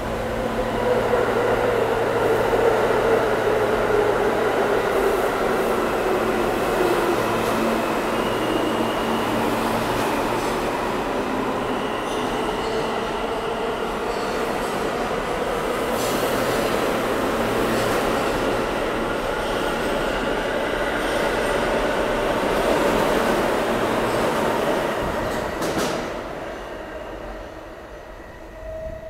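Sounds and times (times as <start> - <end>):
subway train wheels on rail: 0.0 - 29.0.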